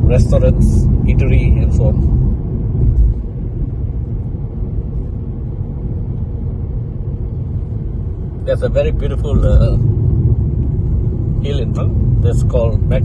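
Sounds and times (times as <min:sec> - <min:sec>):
low outdoor rumbling: 0:00.0 - 0:13.0.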